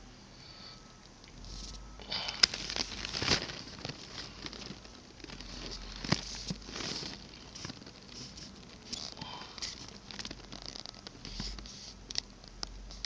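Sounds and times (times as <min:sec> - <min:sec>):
rustling and crinkling: 0:01.3 - 0:13.0.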